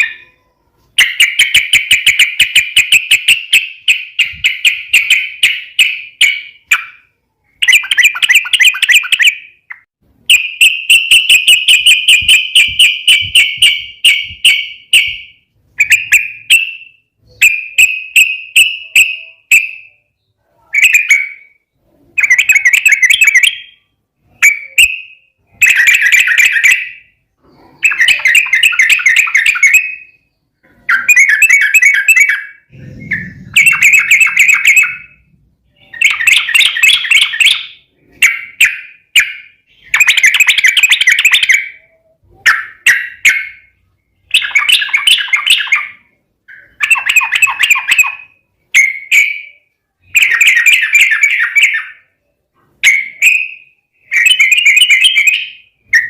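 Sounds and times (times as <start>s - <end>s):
bulbul singing rapid chattering notes: 1.0s - 30.2s, 30.9s - 52.1s.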